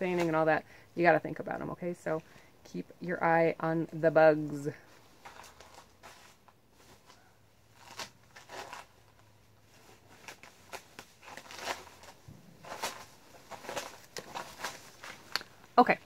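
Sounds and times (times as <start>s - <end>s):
coverall rustling and crinkling: 0.0s - 2.4s, 4.0s - 16.0s.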